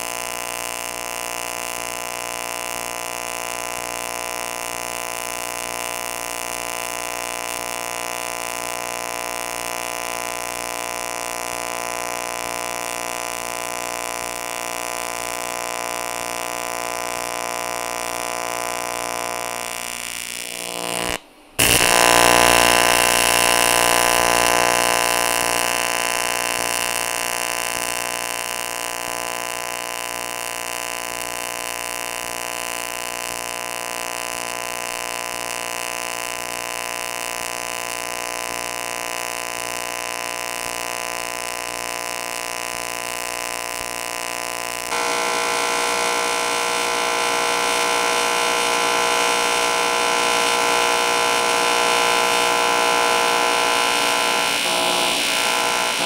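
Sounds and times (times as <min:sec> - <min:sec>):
welding arc buzzing: 0:00.0 - 0:56.0.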